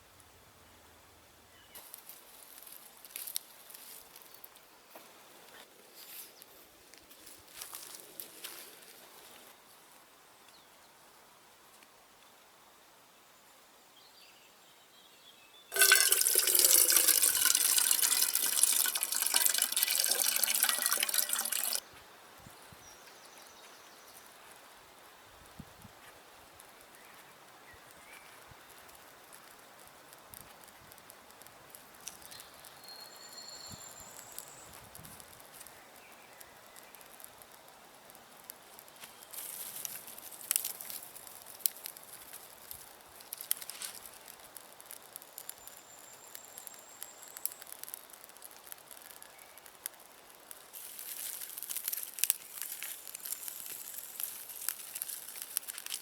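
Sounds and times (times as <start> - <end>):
twigs and pine needles crackling: 1.7 - 10.6, 15.7 - 21.9, 22.6 - 56.0.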